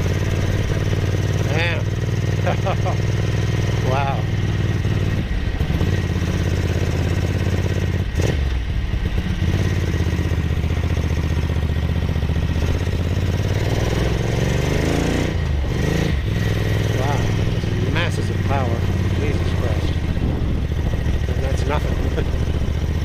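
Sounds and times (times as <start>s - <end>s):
motorcycle v-twin engine running: 0.0s - 23.0s.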